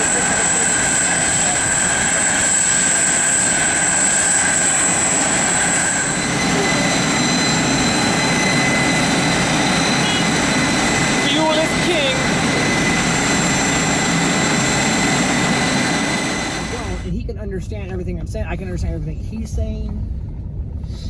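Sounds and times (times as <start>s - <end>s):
jet turbine whine: 0.0s - 17.3s.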